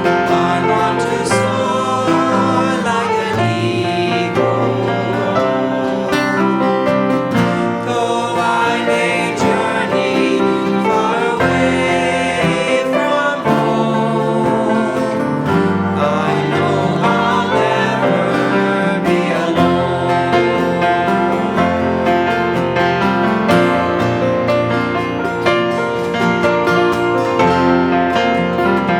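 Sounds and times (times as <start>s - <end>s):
song with plucked guitar: 0.0s - 28.9s.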